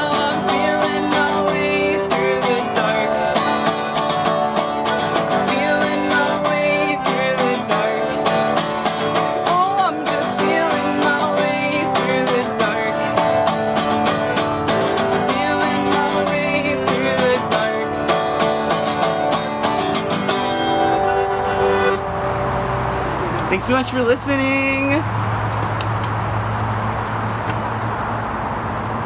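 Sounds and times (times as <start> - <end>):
strummed guitars: 0.0 - 24.9.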